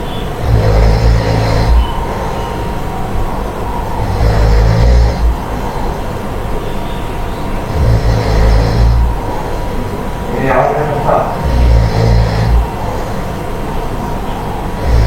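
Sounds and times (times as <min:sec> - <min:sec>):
loud low snoring: 0:00.0 - 0:15.0.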